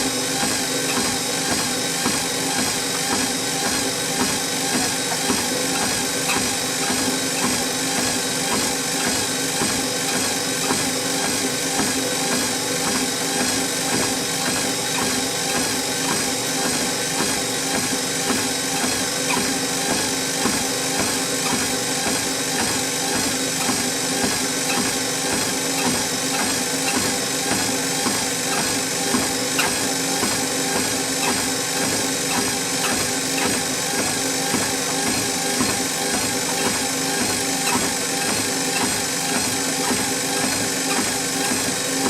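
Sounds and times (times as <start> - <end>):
treadmill motor and belt hum: 0.0 - 42.0
footfalls on treadmill belt: 0.3 - 42.0.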